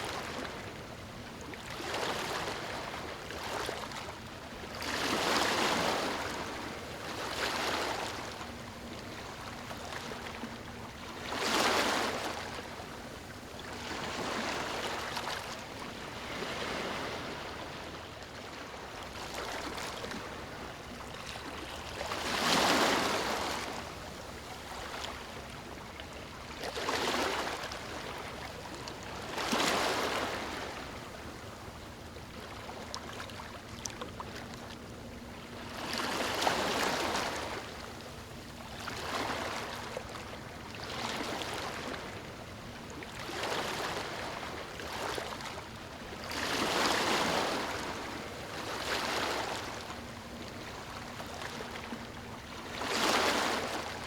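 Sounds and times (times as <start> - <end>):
waves lapping on a beach: 0.0 - 54.0.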